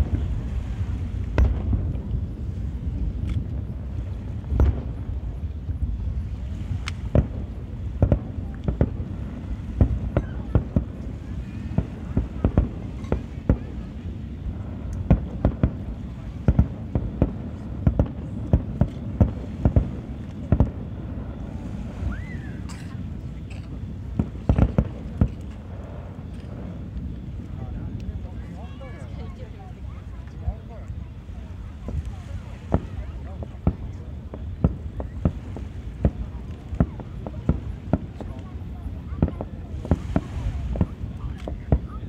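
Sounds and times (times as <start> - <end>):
continuous low rumble: 0.0 - 42.0
fireworks bursting with sharp bangs: 0.0 - 42.0.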